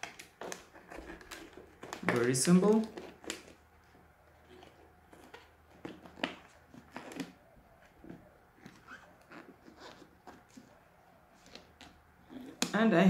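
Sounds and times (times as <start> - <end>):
balloon rubber rubbing: 0.0 - 12.8.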